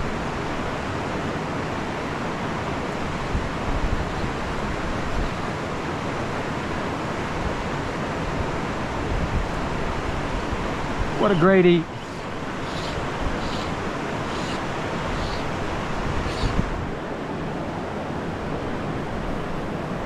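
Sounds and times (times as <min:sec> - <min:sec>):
stream water flowing: 0:00.0 - 0:20.0
wind buffeting microphone: 0:02.5 - 0:20.0.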